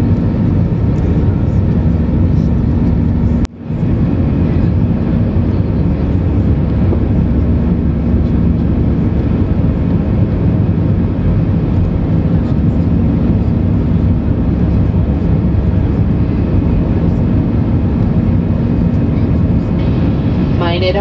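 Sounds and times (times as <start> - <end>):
aircraft cabin engine roar: 0.0 - 21.0.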